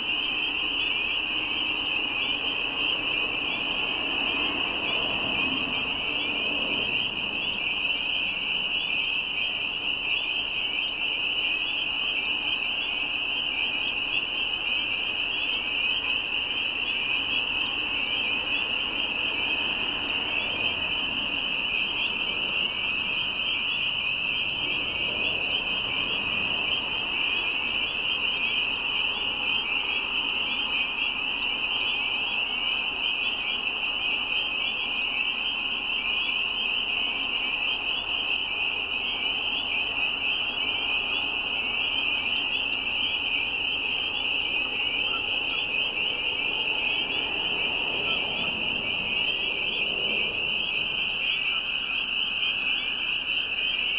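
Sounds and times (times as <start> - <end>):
spring peepers chorus: 0.0 - 53.9.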